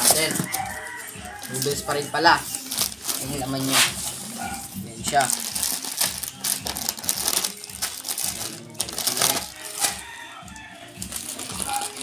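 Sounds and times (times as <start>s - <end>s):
plastic bags crinkling: 0.0s - 10.2s, 11.0s - 12.0s.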